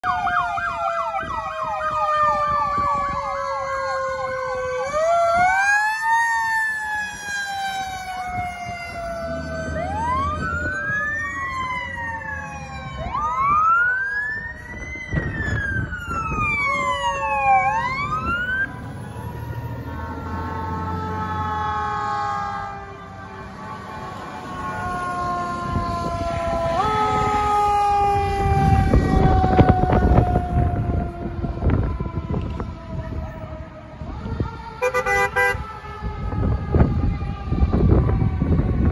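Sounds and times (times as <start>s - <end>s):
sirens wailing: 0.0s - 38.9s
heavy truck engines rumbling: 0.1s - 38.9s.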